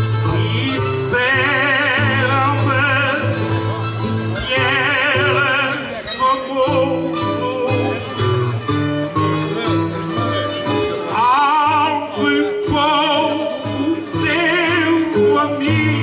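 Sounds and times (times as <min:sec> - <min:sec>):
acoustic guitar and viola: 0:00.0 - 0:16.0
man singing with vibrato: 0:00.0 - 0:16.0.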